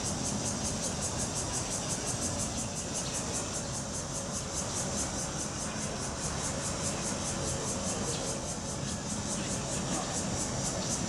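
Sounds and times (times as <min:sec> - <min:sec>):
pulsing insect chorus: 0:00.0 - 0:11.0.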